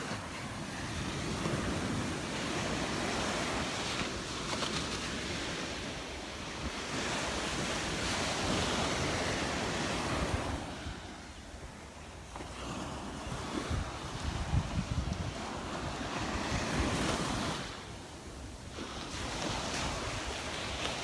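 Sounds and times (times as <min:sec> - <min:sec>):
surf breaking on beach: 0:00.0 - 0:11.4, 0:12.4 - 0:21.0
wind buffeting microphone: 0:00.0 - 0:11.9, 0:12.8 - 0:18.0.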